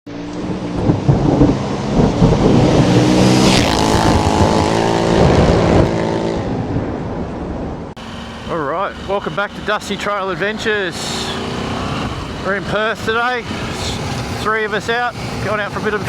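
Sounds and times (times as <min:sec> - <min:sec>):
motorcycle engines revving: 0:00.1 - 0:07.0, 0:08.0 - 0:16.0
wind and road noise: 0:00.1 - 0:16.0.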